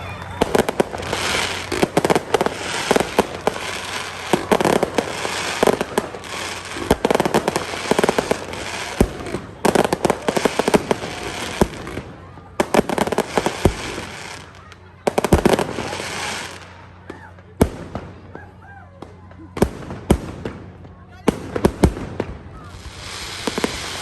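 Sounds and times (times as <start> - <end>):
fireworks popping and banging: 0.0 - 24.0.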